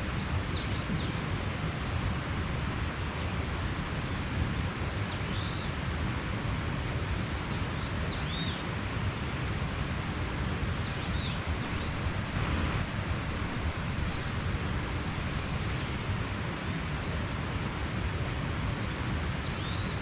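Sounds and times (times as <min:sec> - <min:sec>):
mountain stream flowing: 0:00.0 - 0:20.0.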